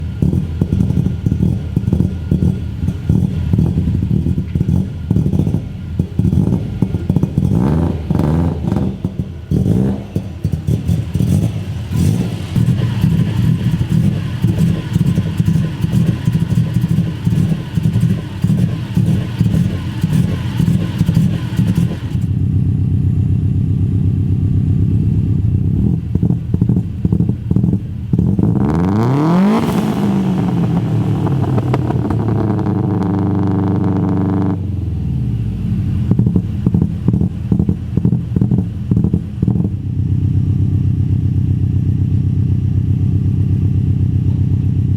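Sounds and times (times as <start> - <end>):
engine pops and crackles: 0.0 - 22.5, 23.9 - 34.6, 35.8 - 44.9
car engine uneven idle: 0.0 - 44.9.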